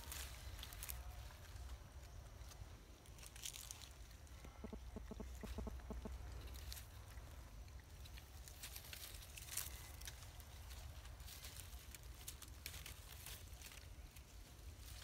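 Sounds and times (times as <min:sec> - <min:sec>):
dry leaves crackling: 0:00.0 - 0:15.0.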